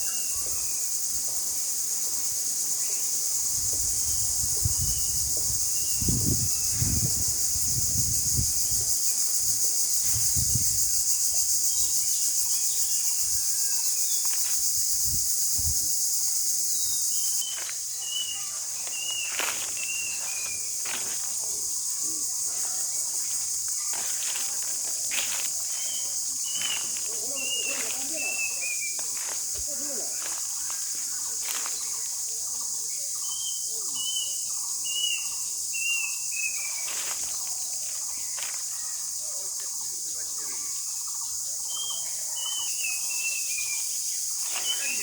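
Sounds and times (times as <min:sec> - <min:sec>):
insect chorus with crickets: 0:00.0 - 0:45.0.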